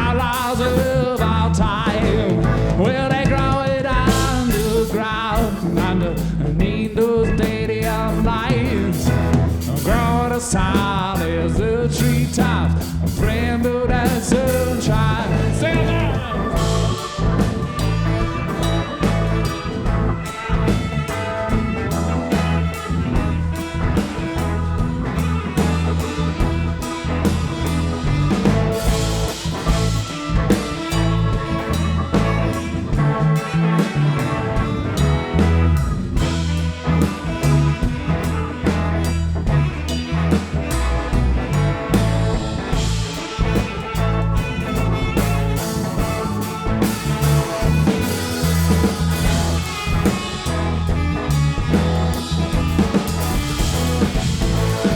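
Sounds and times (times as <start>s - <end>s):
live band playing country-rock: 0.0s - 54.9s.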